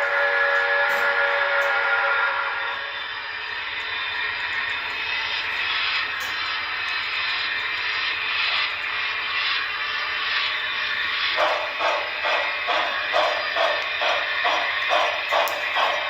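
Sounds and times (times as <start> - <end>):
steam hiss: 0.0 - 16.0
regular pulsing: 1.2 - 16.0.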